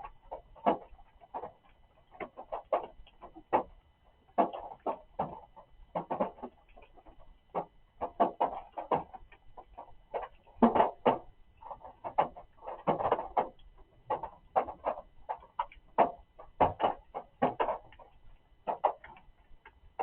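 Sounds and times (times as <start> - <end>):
raindrops knocking on surfaces: 0.0 - 20.0.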